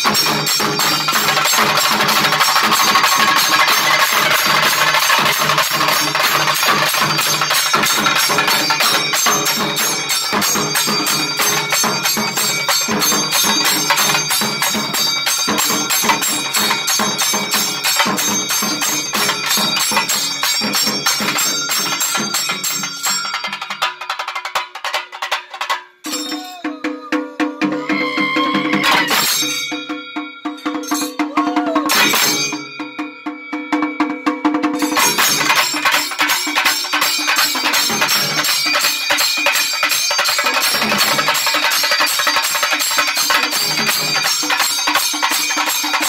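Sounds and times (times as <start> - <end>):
stick drums beaten fast: 0.0 - 46.0.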